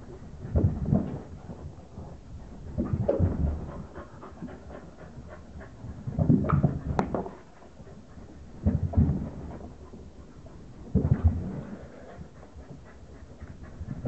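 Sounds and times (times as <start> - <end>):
dogs' paws thudding on carpet: 0.1 - 14.0.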